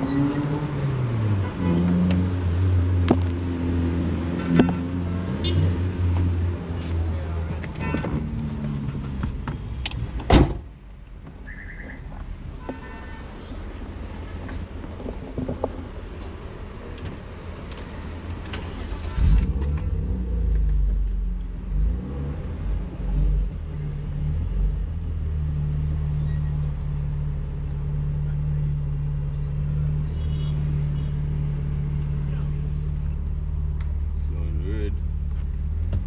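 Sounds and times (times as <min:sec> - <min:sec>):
car engine starting and running: 0:00.0 - 0:11.4, 0:13.9 - 0:36.0.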